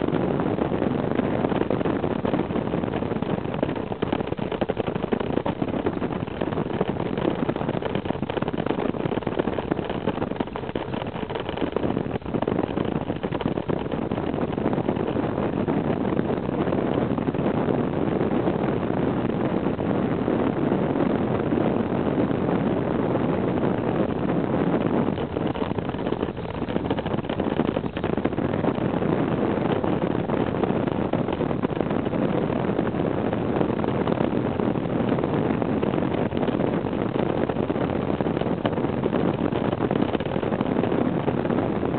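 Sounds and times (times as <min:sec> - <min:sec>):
wind rush on microphone: 0:00.0 - 0:41.9.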